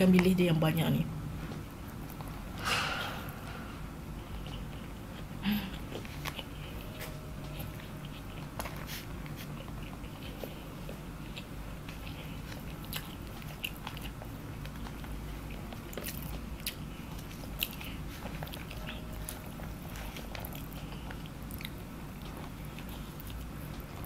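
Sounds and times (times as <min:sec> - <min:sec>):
wet chewing with crunches: 0:04.2 - 0:24.0.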